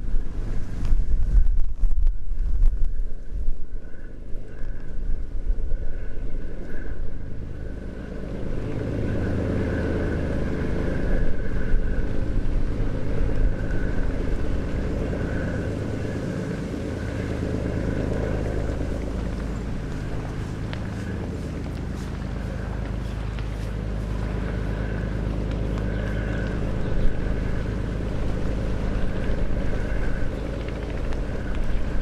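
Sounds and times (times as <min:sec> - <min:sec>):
wind buffeting microphone: 0:00.0 - 0:32.0
boat engine running: 0:03.7 - 0:32.0.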